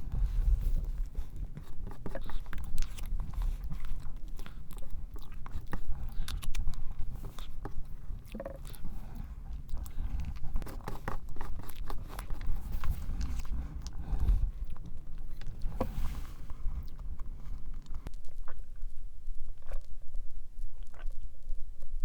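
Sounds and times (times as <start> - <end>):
chewing and wet mouth sounds: 0.0 - 21.6
small mouth clicks: 0.9 - 18.9.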